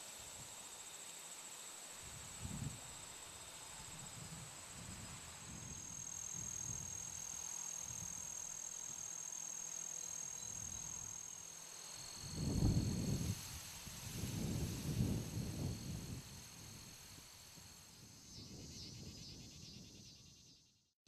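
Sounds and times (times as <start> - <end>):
lower insect trill: 0.0 - 20.9
insects trilling: 0.3 - 20.8.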